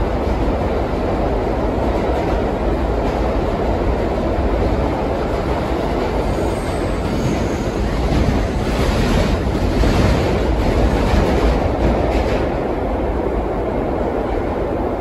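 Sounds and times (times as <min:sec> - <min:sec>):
subway car rumbling on track: 0:00.0 - 0:15.0.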